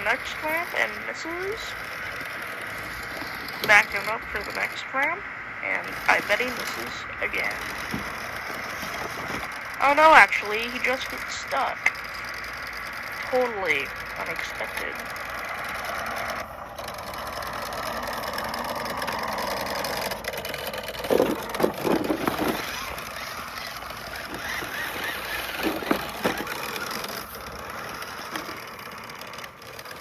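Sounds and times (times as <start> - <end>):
small electric motor whirring: 0.0 - 30.0.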